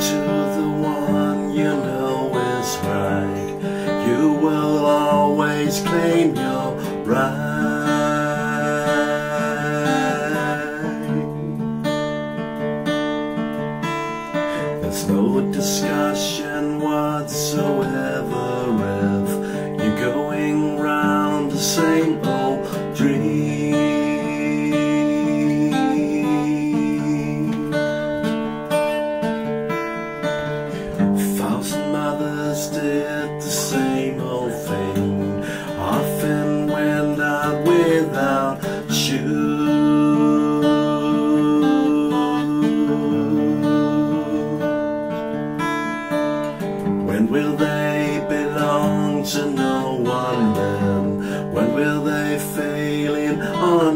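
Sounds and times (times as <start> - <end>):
man singing: 0.0 - 12.1, 14.4 - 28.4, 30.7 - 45.4, 46.8 - 53.9
acoustic guitar strummed: 0.0 - 53.9.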